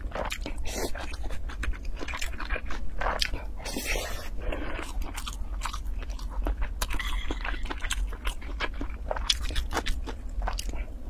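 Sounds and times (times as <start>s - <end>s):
close chewing with mouth clicks: 0.0s - 10.9s
low hum: 0.0s - 11.0s.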